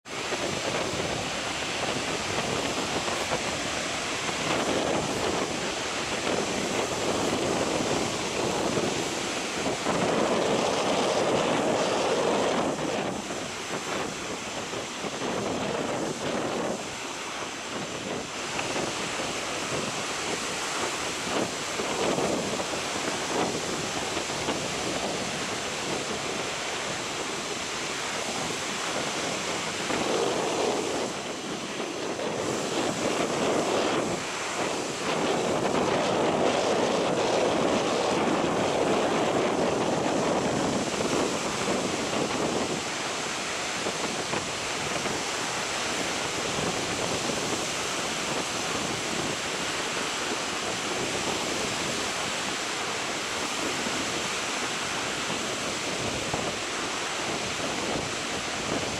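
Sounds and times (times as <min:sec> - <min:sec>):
surf washing: 0:00.0 - 0:58.9
wind: 0:00.0 - 0:58.9.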